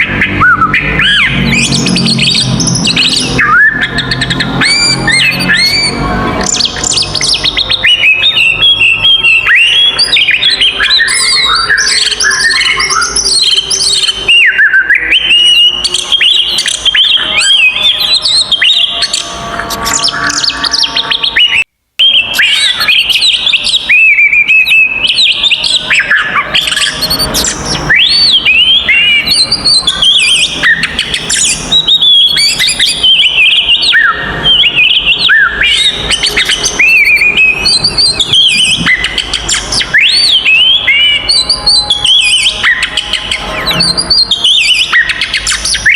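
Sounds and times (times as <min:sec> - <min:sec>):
songbird singing fast whistles and trills: 0:00.0 - 0:45.9.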